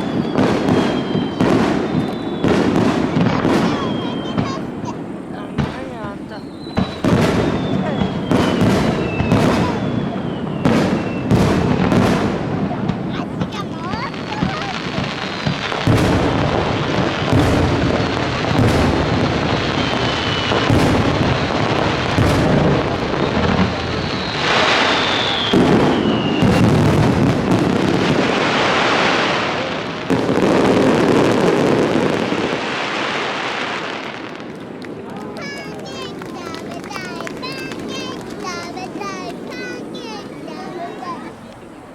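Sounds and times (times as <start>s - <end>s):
fireworks bursting: 0.0s - 41.9s
fireworks whistles: 0.0s - 41.9s.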